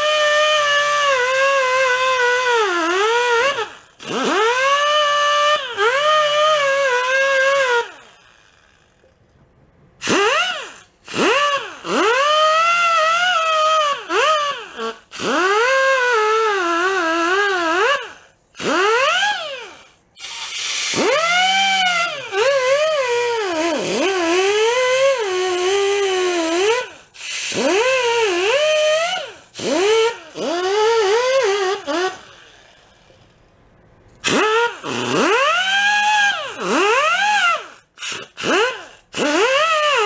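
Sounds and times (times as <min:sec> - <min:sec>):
air grinder whining on metal: 0:00.0 - 0:09.1, 0:10.0 - 0:33.5, 0:34.2 - 0:40.0.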